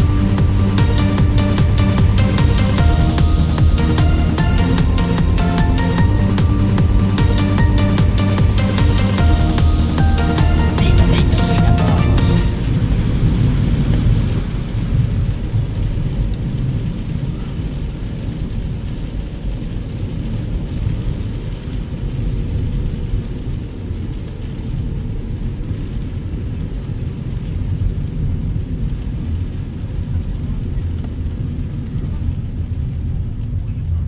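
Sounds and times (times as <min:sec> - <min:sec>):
car engine and tyres on wet road: 0:00.0 - 0:34.0.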